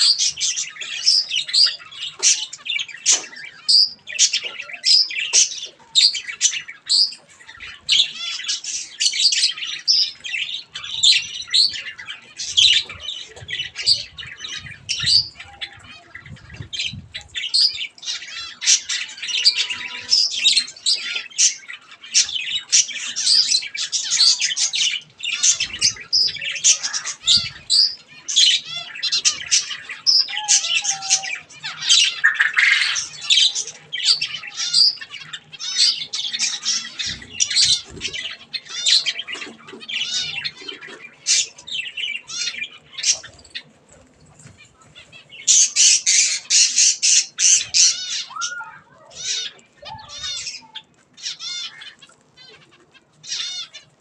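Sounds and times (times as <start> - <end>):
small birds chattering and calling: 0.0 - 54.0.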